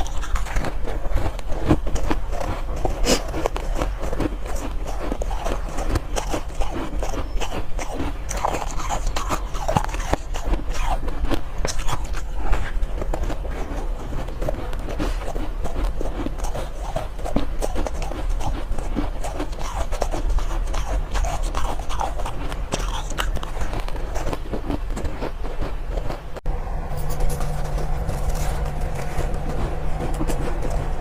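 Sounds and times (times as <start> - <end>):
shaved ice crunching while chewed: 0.0 - 26.3, 27.0 - 31.0
low steady hum: 0.0 - 31.0.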